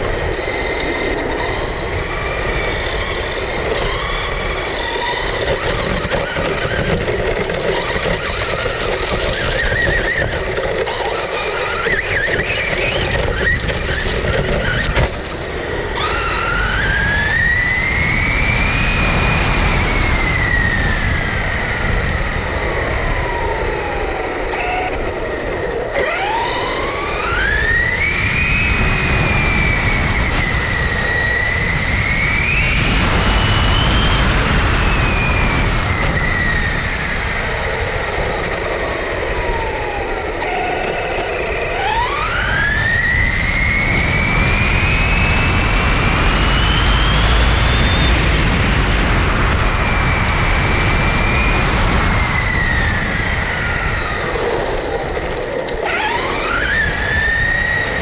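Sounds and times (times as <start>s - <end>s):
electric motor whining: 0.0s - 58.0s
rough road noise: 0.0s - 58.0s
wind noise: 0.0s - 58.0s.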